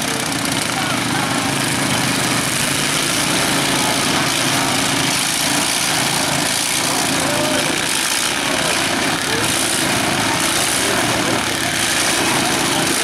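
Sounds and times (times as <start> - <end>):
lawn mower engines idling: 0.0 - 13.0.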